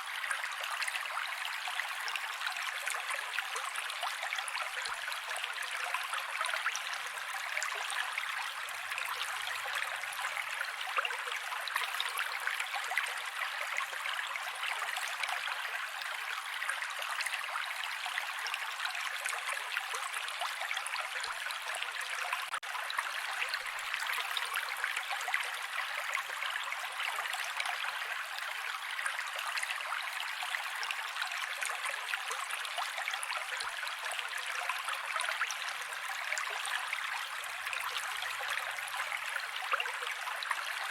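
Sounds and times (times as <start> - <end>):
creek water running over rocks: 0.0 - 40.9.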